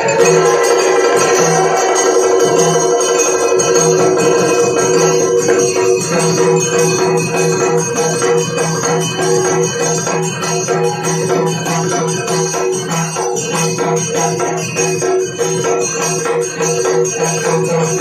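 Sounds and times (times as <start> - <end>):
ankle bells: 0.0 - 18.0
fast drum strokes: 0.0 - 18.0
jingling metal percussion: 0.0 - 18.0
steady drone: 0.0 - 18.0.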